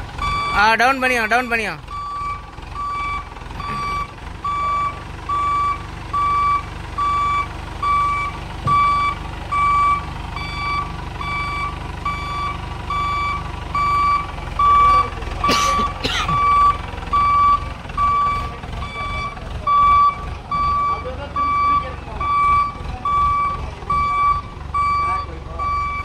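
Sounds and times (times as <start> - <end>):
forklift engine running: 0.0 - 26.0
reversing alarm beeping: 0.2 - 1.0, 1.9 - 15.1, 15.8 - 26.0.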